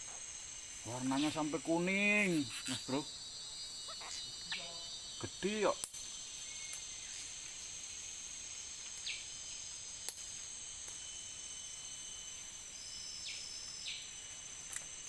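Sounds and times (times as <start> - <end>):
insects chorus with crickets: 0.0 - 15.0.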